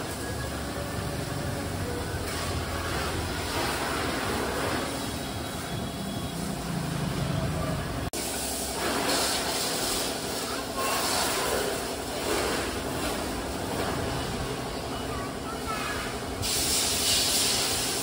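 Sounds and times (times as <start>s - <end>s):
pressure washer jets hissing: 0.0s - 18.0s.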